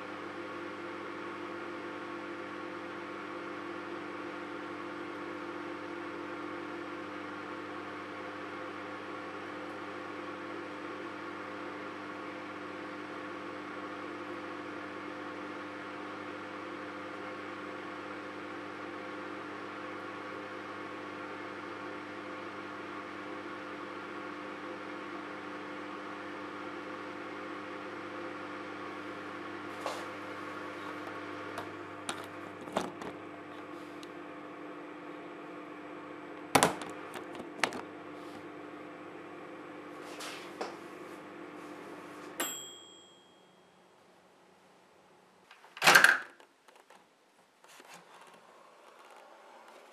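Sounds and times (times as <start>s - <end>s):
microwave oven humming: 0.0s - 46.4s.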